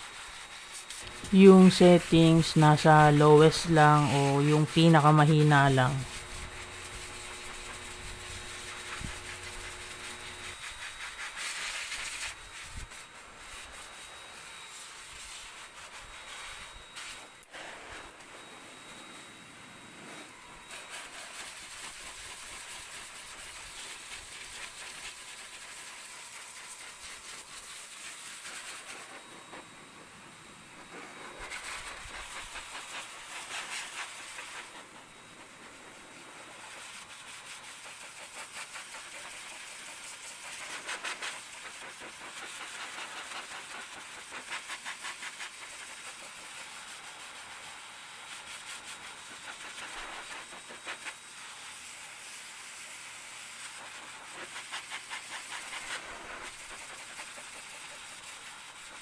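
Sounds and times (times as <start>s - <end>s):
pet grooming blower air rush: 0.0s - 59.0s.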